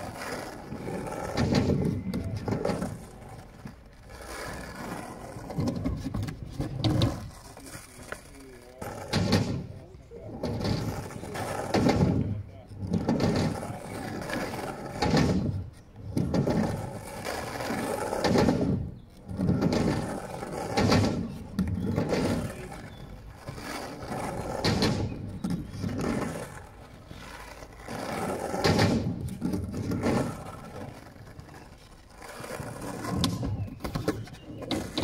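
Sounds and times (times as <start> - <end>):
skateboard clacks: 0.0 - 35.0
skateboard wheels rolling on asphalt: 0.0 - 35.0.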